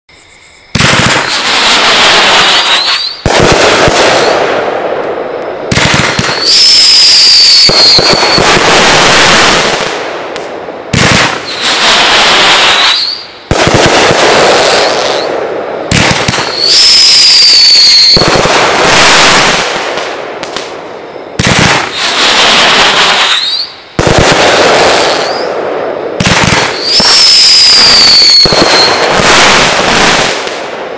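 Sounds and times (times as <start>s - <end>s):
firework whistles: 0.1s - 10.0s, 10.9s - 30.9s
firework launch reports: 0.2s - 30.9s
crackling firework breaks: 0.8s - 4.7s, 5.7s - 15.3s, 15.9s - 20.7s, 21.4s - 25.5s, 26.2s - 30.9s.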